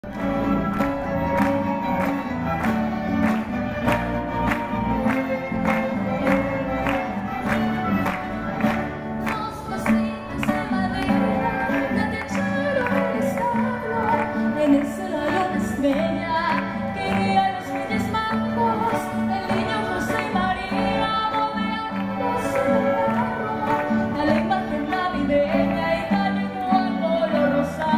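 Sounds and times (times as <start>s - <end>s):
string orchestra playing: 0.0s - 27.9s.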